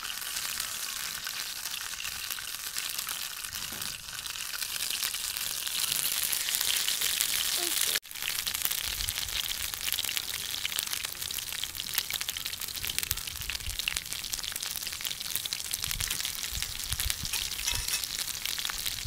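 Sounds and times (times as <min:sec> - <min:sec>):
batter deep-frying in hot oil: 0:00.0 - 0:19.0.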